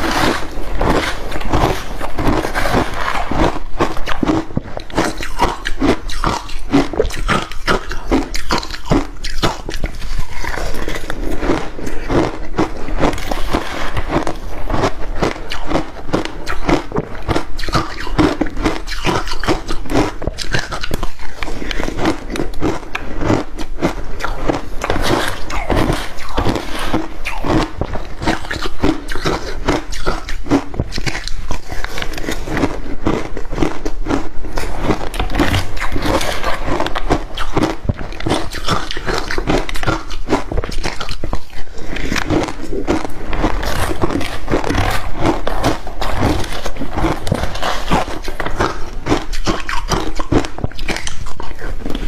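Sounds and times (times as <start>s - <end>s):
crunching and chewing ice: 0.0s - 52.0s.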